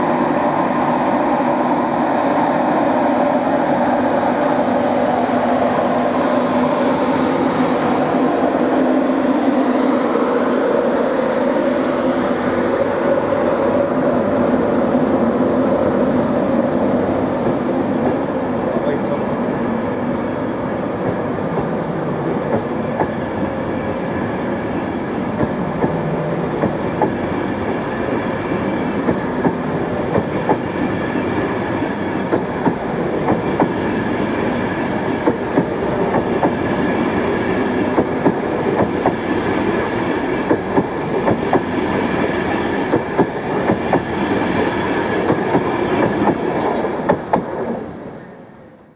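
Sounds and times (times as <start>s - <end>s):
train coaches rumbling past: 0.0s - 48.9s.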